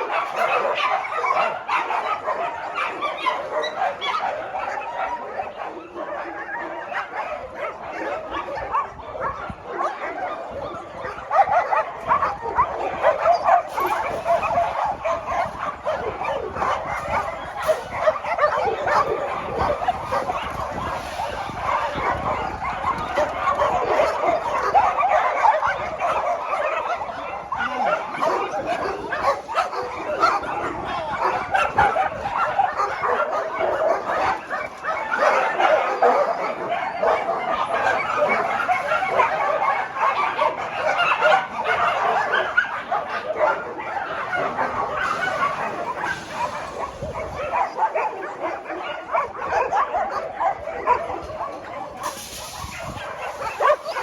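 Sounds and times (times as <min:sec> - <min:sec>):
dogs barking and yipping: 0:00.0 - 0:54.0.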